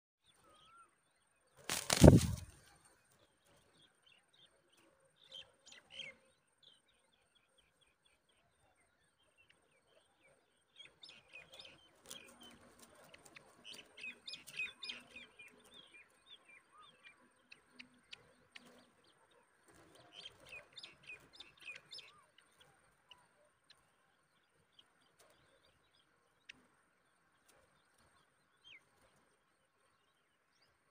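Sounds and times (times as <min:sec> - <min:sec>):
birds chirping and twittering: 0:00.2 - 0:30.9.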